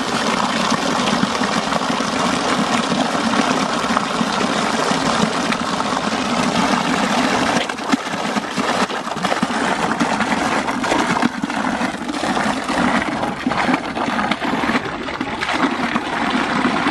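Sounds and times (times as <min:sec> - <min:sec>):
water pouring and splashing: 0:00.0 - 0:16.9.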